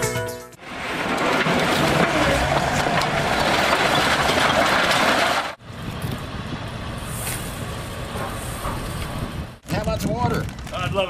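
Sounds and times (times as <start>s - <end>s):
skid-steer loader running loudly: 0.6s - 9.6s.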